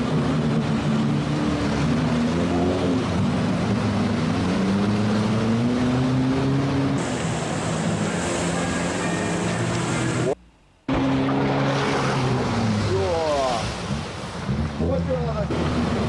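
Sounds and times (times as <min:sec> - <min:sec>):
off-road engine revving: 0:00.0 - 0:16.0
wheels churning mud: 0:00.0 - 0:16.0.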